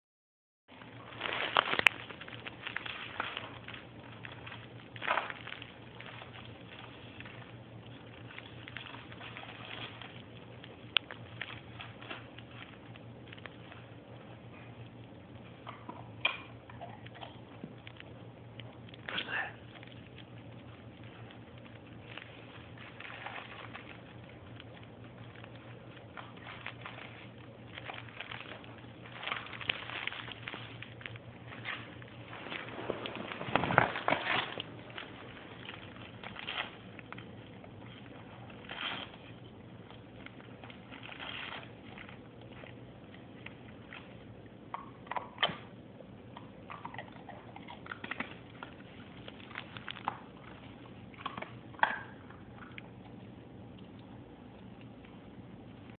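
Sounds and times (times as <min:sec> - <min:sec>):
wrapping paper crinkling and tearing: 0:00.7 - 0:55.9.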